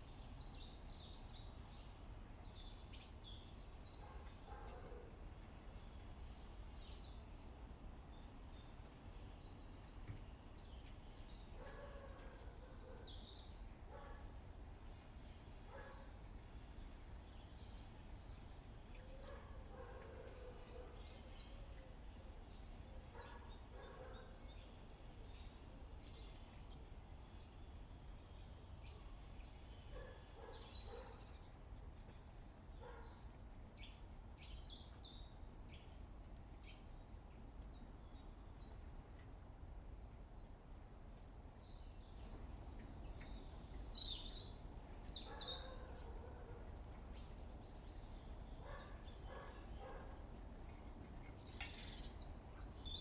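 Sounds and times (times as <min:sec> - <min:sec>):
small birds chirping: 0:00.0 - 0:07.2, 0:08.0 - 0:53.0.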